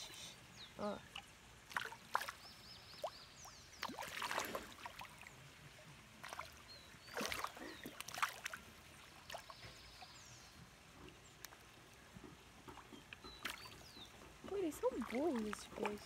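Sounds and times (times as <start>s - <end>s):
fish splashing at water surface: 1.2s - 5.4s, 6.2s - 10.2s, 11.0s - 16.0s.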